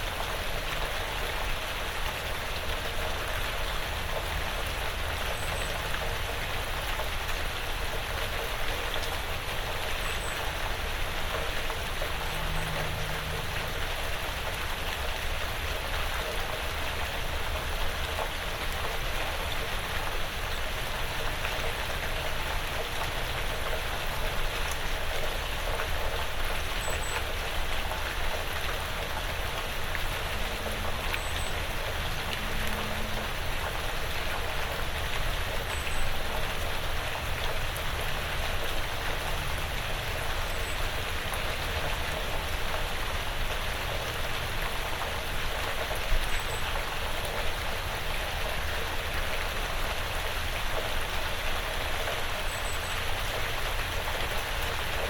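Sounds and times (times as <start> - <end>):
rain pattering on roof and woods: 0.0 - 55.0.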